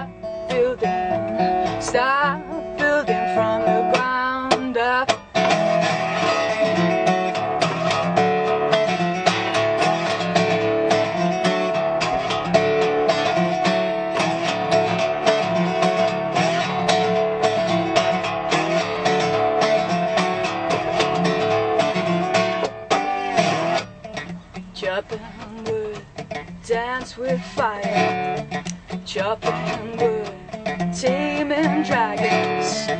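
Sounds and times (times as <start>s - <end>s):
resonator guitar strumming: 0.0s - 32.9s.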